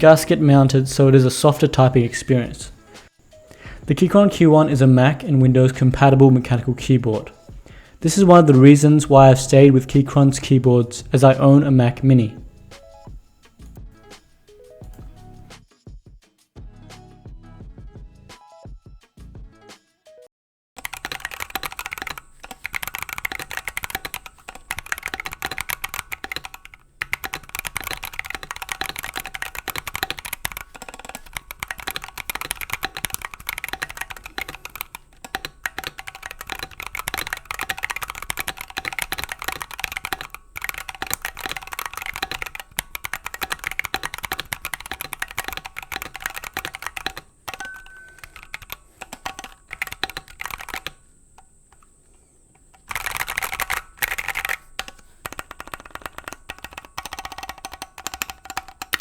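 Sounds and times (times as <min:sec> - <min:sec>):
mechanical keyboard typing: 0:00.0 - 0:13.2, 0:20.8 - 0:59.0.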